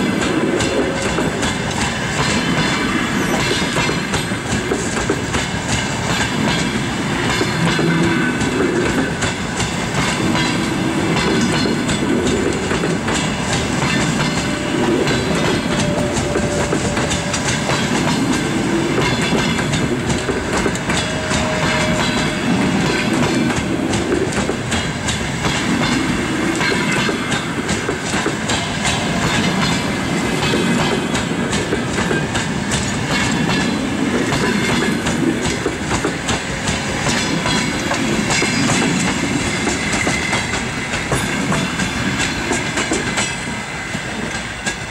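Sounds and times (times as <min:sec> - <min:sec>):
train wheels clattering over rail joints: 0:00.0 - 0:44.9.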